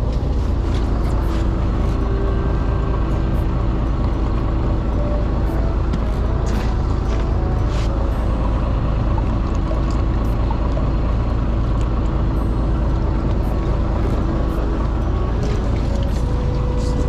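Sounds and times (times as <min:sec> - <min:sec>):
boat engine rumbling: 0:00.0 - 0:17.0.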